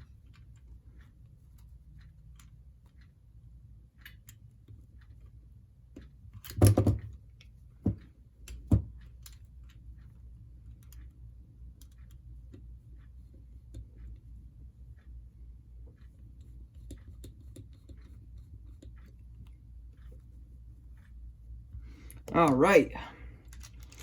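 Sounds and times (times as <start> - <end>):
small clicks and taps: 0.0 - 22.4.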